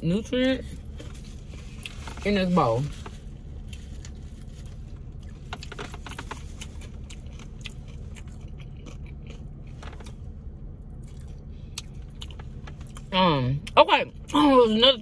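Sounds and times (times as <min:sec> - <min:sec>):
low car cabin hum: 0:00.0 - 0:15.0
person chewing with crunches: 0:00.7 - 0:14.4.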